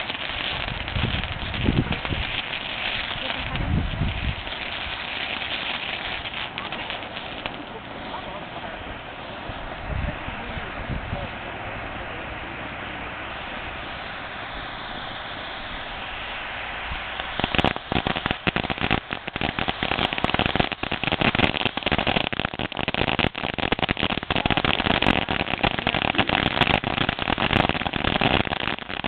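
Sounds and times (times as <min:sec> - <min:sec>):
firework crackling pops: 0:00.0 - 0:11.3, 0:13.0 - 0:29.0
firework hissing: 0:00.0 - 0:29.0.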